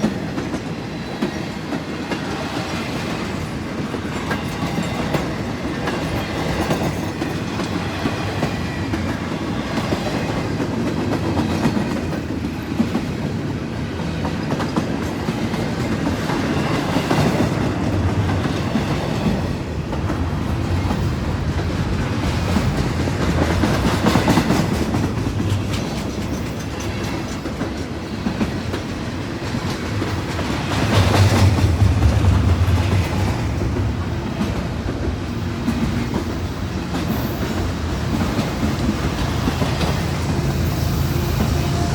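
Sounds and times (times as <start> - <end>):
freight train rumble: 0.0 - 41.9
train wheels clicking over rail joints: 0.0 - 41.9.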